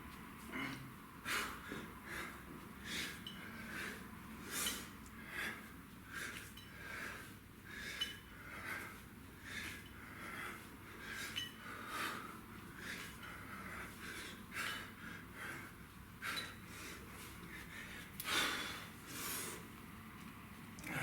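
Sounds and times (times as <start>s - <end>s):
man breathing hard: 0.4s - 19.7s.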